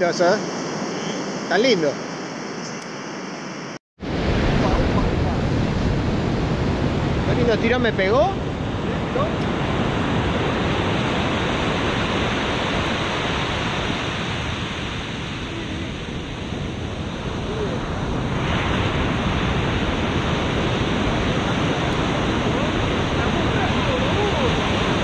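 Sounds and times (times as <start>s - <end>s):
ocean surf breaking on beach: 4.0s - 25.0s
wind buffeting microphone: 4.0s - 25.0s.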